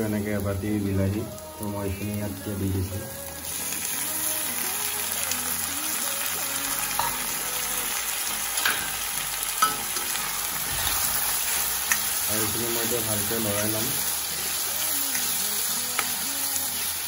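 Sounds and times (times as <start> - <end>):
tomatoes sizzling in hot oil: 0.0 - 17.0.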